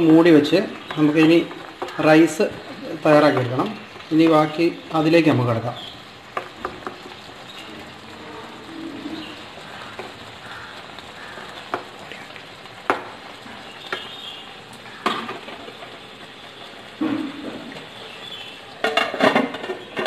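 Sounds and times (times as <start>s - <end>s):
low sizzle: 0.0s - 20.0s.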